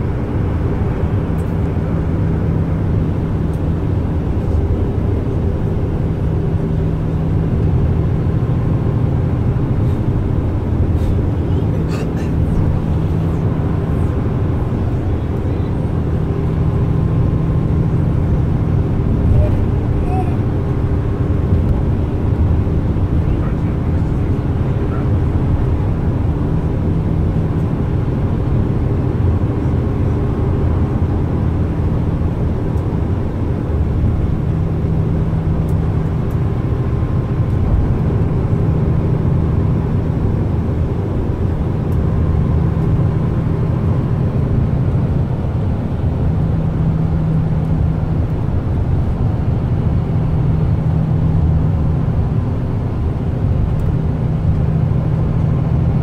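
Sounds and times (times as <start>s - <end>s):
coach engine and tyres rumbling: 0.0s - 56.0s.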